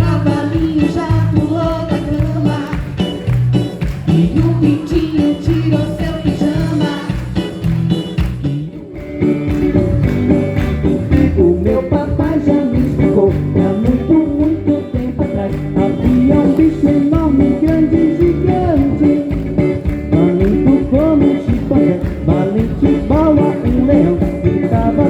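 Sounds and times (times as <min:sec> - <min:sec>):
live band playing with guitar: 0:00.0 - 0:25.0.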